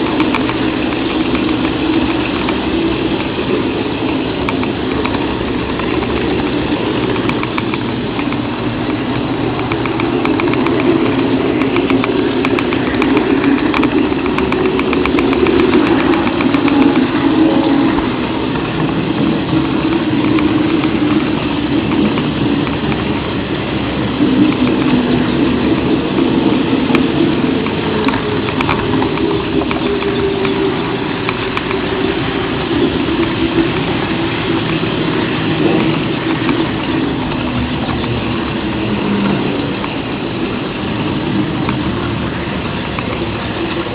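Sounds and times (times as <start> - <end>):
model train motor rumble: 0.0 - 43.9
wheels clicking over rails: 0.0 - 43.9.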